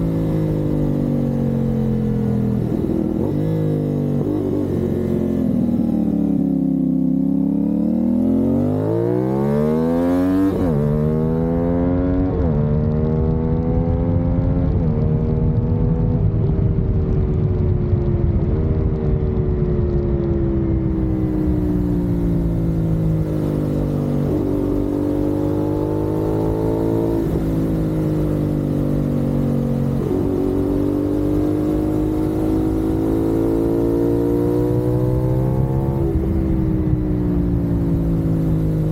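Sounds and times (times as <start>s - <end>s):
motorcycle engine revving: 0.0s - 16.1s, 20.9s - 38.9s.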